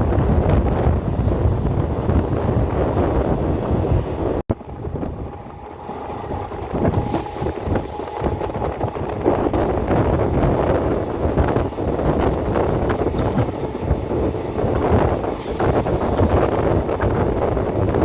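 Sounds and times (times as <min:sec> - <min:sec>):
moving passenger train: 0:00.0 - 0:18.0
wind buffeting microphone: 0:00.0 - 0:18.0.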